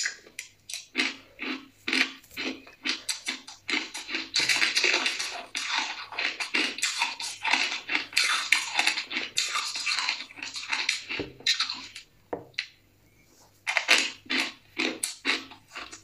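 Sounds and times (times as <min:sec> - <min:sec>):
crunchy ice chewing: 0:00.0 - 0:11.9, 0:13.7 - 0:16.0.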